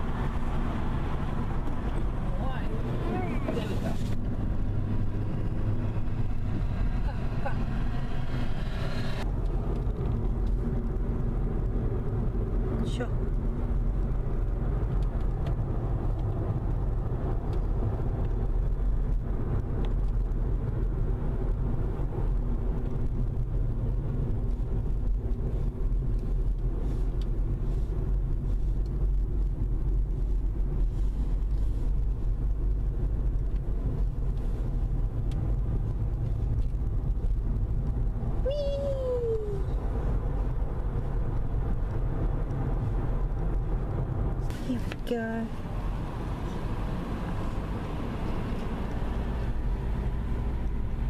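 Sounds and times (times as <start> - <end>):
car engine and tyre rumble: 0.0 - 51.0.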